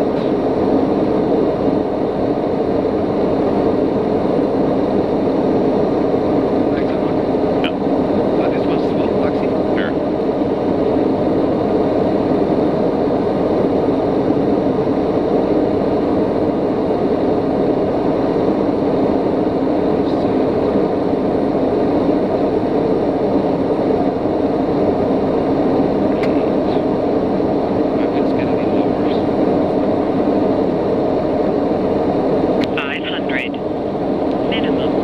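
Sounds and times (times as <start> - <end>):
turboprop engine drone in cabin: 0.0 - 35.0.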